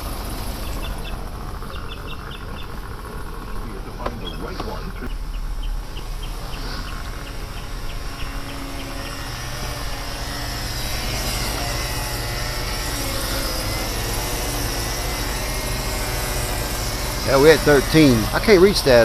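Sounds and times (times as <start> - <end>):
car engine idling: 0.0 - 19.0
faint high whine: 0.0 - 19.0.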